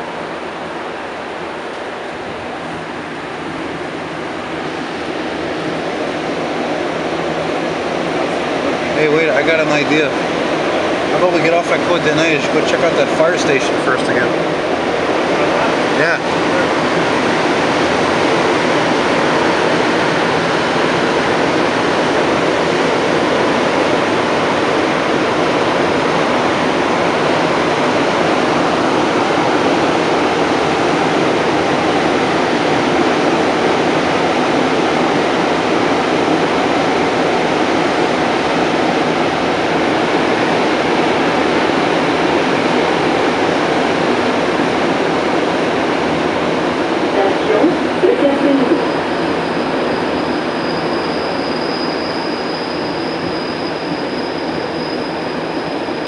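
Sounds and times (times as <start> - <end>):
metro car tyre and tunnel rush: 0.0 - 56.0.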